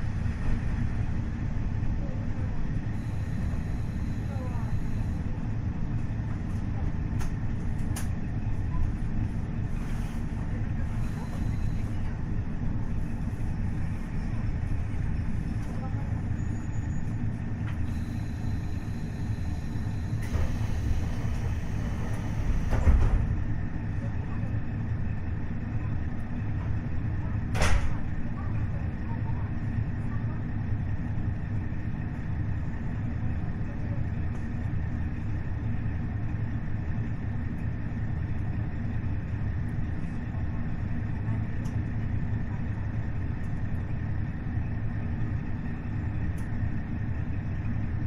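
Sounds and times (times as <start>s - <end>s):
diesel railcar rumble: 0.0s - 48.0s.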